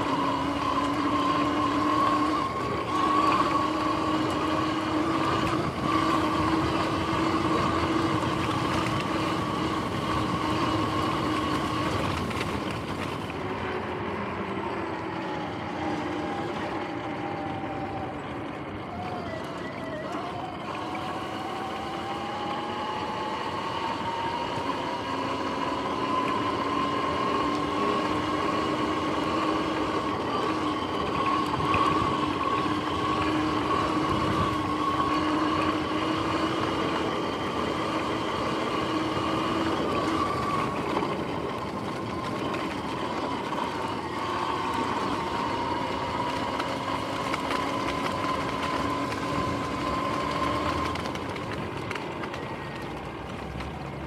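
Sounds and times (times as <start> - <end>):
electric motorbike motor whining: 0.0 - 54.0.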